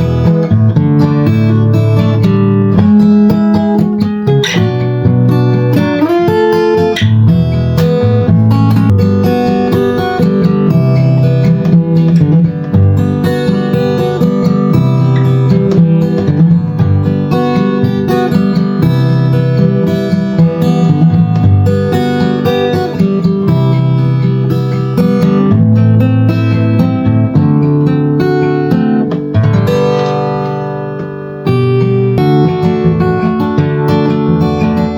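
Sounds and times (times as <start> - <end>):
acoustic guitar chords: 0.0 - 34.9.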